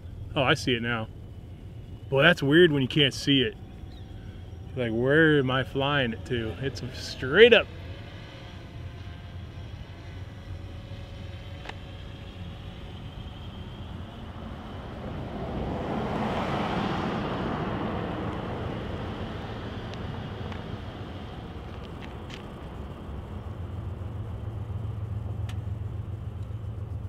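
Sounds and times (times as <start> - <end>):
vehicle passing by: 0.0 - 25.2
low outdoor rumble: 0.0 - 27.0.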